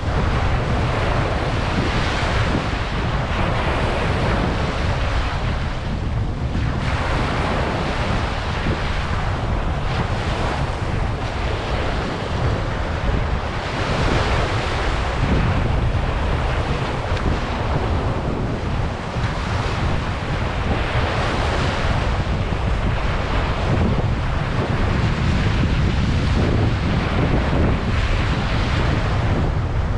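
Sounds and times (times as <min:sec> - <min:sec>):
ocean waves breaking on beach: 0:00.0 - 0:29.9
wind buffeting microphone: 0:00.0 - 0:29.9.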